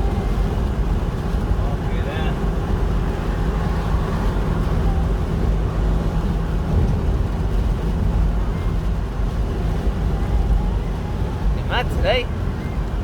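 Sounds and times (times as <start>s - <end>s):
car interior road rumble: 0.0s - 13.0s
gusty wind: 0.0s - 13.0s.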